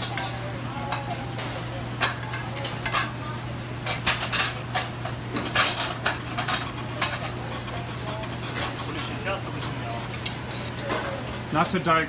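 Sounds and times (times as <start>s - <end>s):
utensils clinking on plates: 0.0s - 11.8s.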